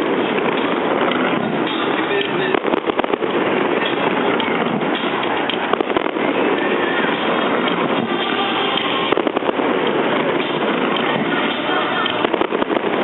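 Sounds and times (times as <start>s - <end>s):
fireworks crackling: 0.0s - 13.0s
sharp firework pops: 0.5s - 6.4s, 7.1s - 13.0s.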